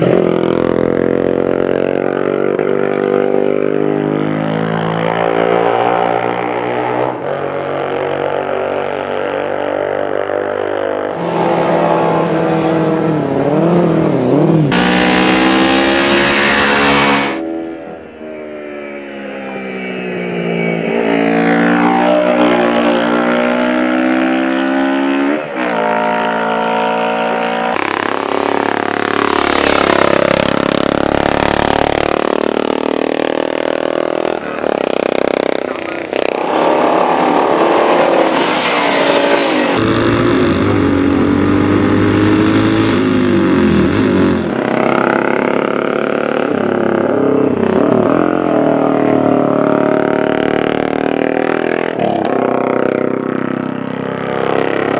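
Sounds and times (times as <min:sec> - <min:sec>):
racing motorcycle engines revving: 0:00.0 - 0:54.9.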